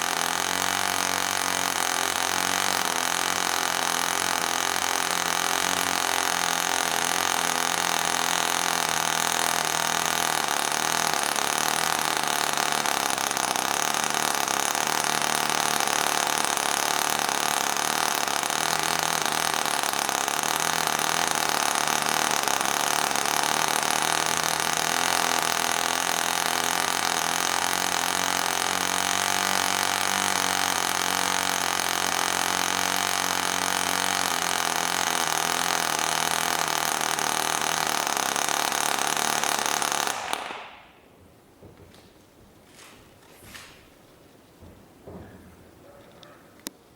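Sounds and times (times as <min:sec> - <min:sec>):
model engine high-pitched buzz: 0:00.0 - 0:41.0.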